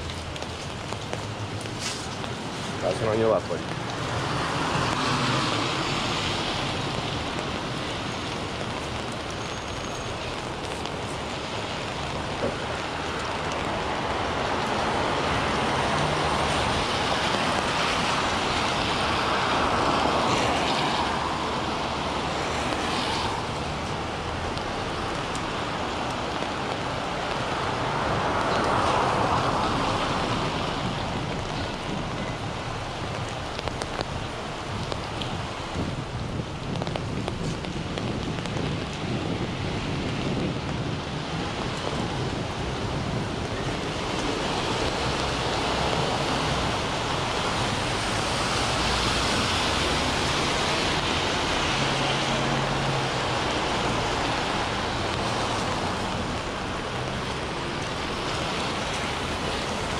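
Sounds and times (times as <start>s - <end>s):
rain on an umbrella: 0.0s - 59.9s
tyres hissing on wet pavement: 0.0s - 59.9s.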